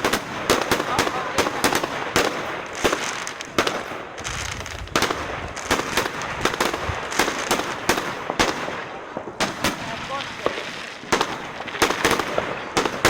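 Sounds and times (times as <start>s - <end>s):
fireworks bangs and pops: 0.0s - 13.0s
fireworks crackling: 0.0s - 13.0s.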